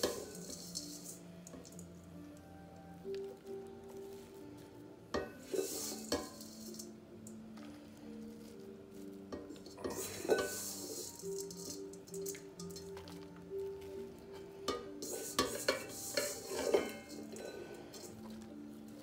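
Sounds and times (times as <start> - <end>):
grainy rustle of crumble topping: 0.0 - 19.0.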